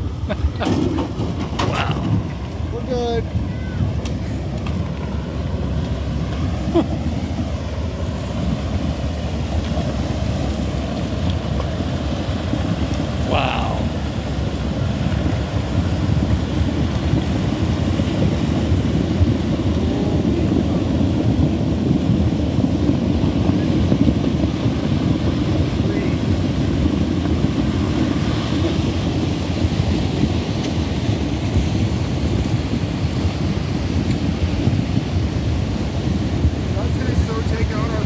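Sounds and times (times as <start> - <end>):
debris flow rumbling: 0.2 - 38.0.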